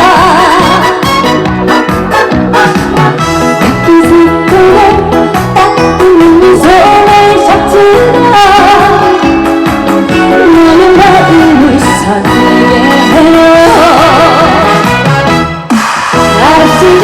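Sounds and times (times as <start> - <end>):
trot song over sound system: 0.0 - 17.0.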